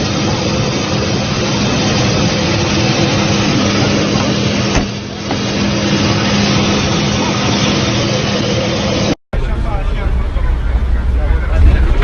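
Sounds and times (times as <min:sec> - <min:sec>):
aircraft engine noise: 0:00.0 - 0:12.0
constant hum: 0:00.0 - 0:12.0.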